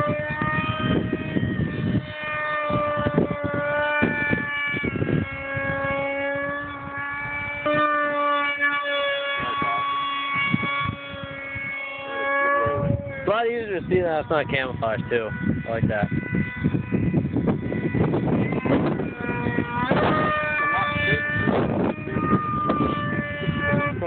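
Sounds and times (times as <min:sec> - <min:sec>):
electric motor propeller whine: 0:00.0 - 0:24.0
wind buffeting microphone: 0:00.0 - 0:24.0.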